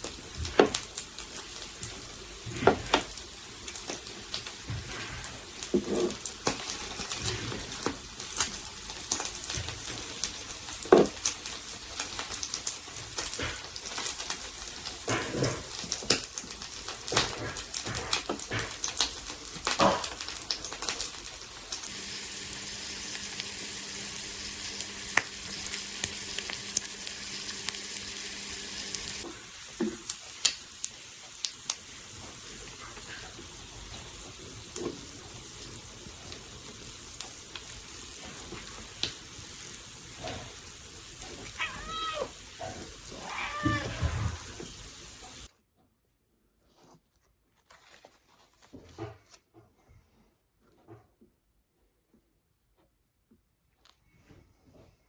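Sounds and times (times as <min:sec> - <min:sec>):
food sizzling in a pan: 0:00.0 - 0:45.5.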